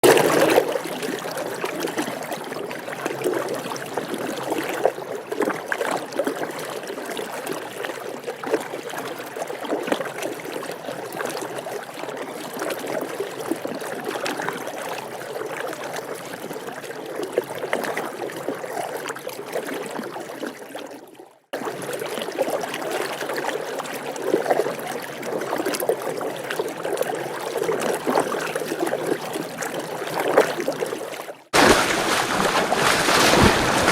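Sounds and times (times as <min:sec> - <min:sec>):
water splashing from swimming: 0:00.0 - 0:33.9.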